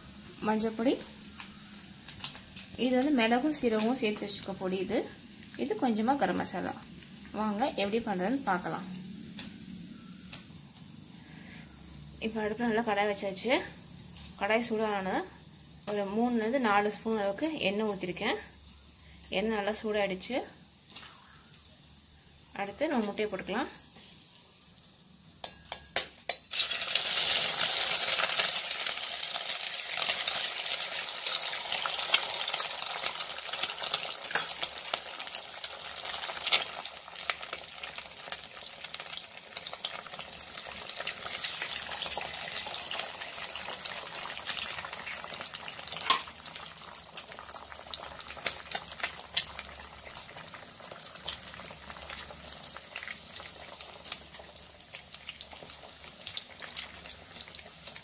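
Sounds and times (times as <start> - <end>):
eggs sizzling in hot oil: 0.0 - 58.0.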